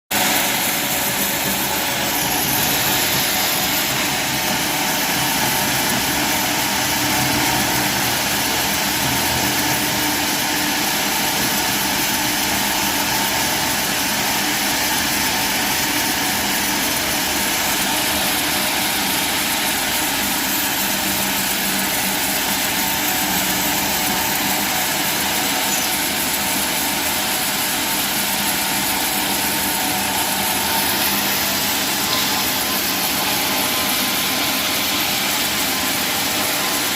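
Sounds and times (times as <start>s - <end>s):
sawmill machinery running: 0.1s - 36.9s.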